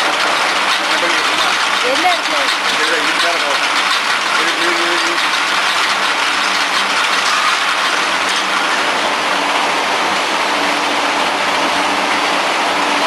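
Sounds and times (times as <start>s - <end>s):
reeling machine whirring: 0.0s - 13.0s.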